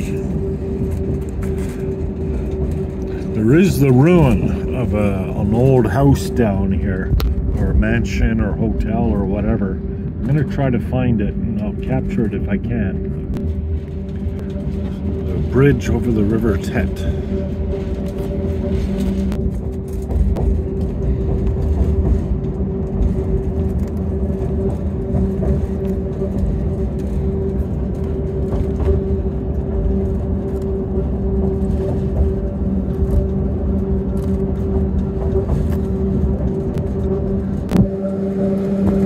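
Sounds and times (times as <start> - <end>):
electric train running: 0.0 - 39.0.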